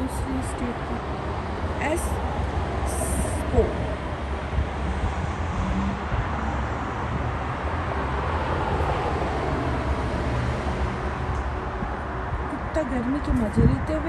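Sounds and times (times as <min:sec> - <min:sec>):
truck driving past: 0:00.0 - 0:12.8
street traffic rumble: 0:00.0 - 0:14.0.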